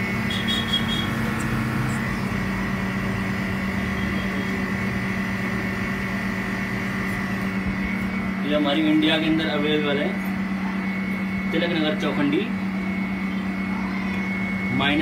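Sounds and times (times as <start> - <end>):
freezer humming with high whine: 0.0 - 15.0.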